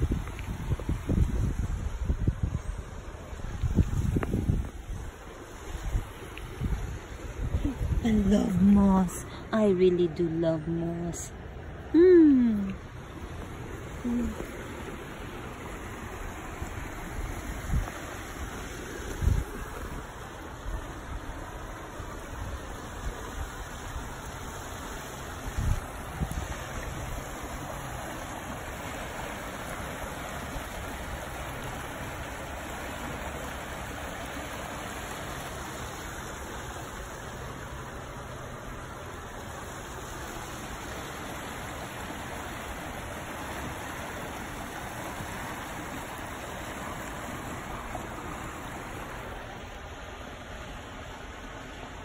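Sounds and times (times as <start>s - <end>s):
brook water rushing: 0.0s - 52.0s.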